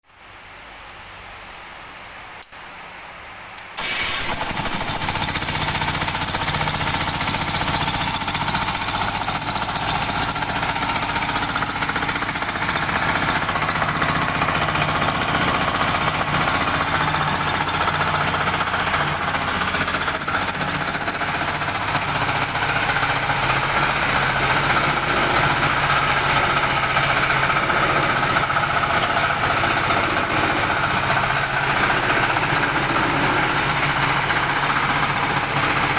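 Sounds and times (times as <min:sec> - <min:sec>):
roller compactor engine running: 0:03.8 - 0:35.9.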